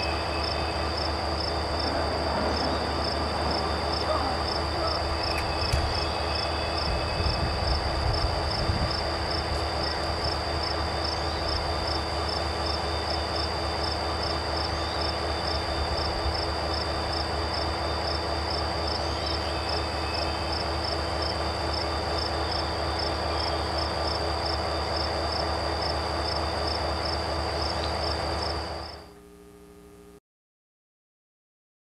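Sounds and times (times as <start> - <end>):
diesel locomotive rumbling past: 0.0 - 29.0
crickets chirping: 0.0 - 29.1.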